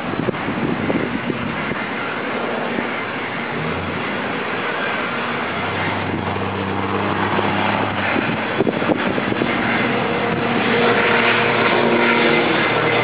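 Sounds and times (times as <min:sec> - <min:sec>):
turboprop plane flying overhead: 0:00.0 - 0:13.0.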